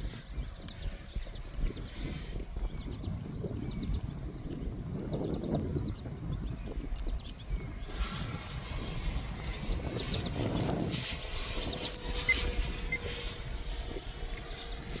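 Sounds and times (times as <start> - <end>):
model jet fan whining overhead: 0.0 - 15.0
wind buffeting microphone: 0.0 - 15.0.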